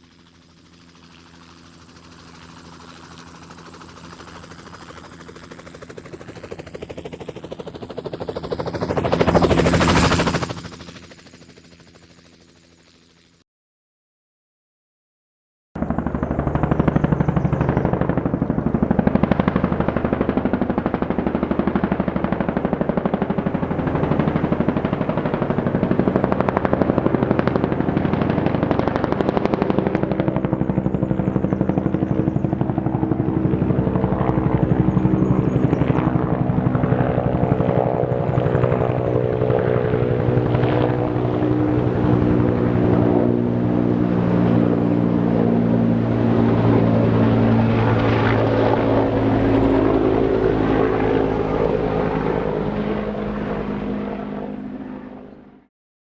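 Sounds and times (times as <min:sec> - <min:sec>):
helicopter rotor chopping: 0:00.0 - 0:13.4, 0:15.8 - 0:55.7.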